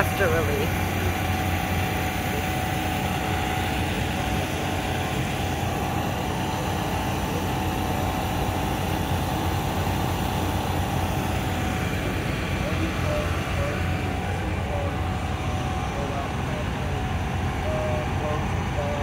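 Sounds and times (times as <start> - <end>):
vehicle running rumble: 0.0 - 19.0.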